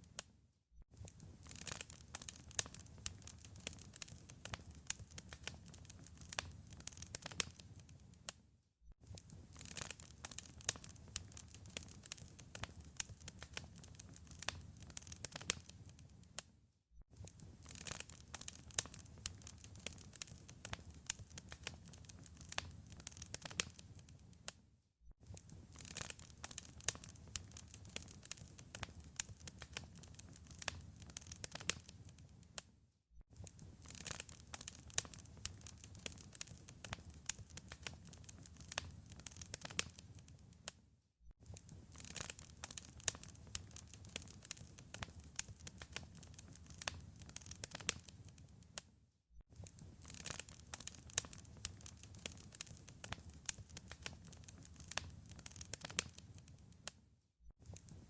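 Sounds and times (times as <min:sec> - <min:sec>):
wood fire crackling: 0:01.0 - 0:08.4, 0:09.1 - 0:16.4, 0:17.2 - 0:24.5, 0:25.2 - 0:32.6, 0:33.4 - 0:40.8, 0:41.4 - 0:48.8, 0:49.6 - 0:57.0, 0:57.6 - 0:58.0.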